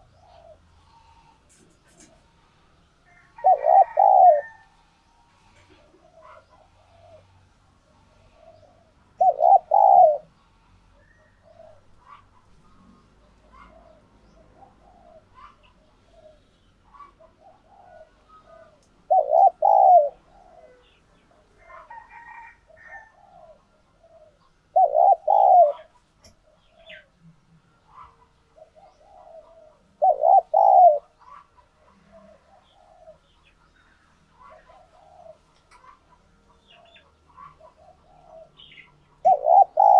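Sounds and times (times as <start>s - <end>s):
dove cooing: 0.0s - 4.8s, 5.4s - 39.9s.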